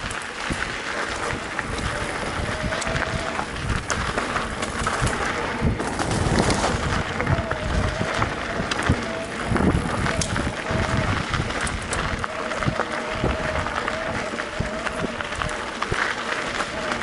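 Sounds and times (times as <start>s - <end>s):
bike rattling clicks and knocks: 0.0s - 17.0s
bike tyre noise on dirt: 0.0s - 17.0s
wind rushing over microphone: 0.0s - 17.0s.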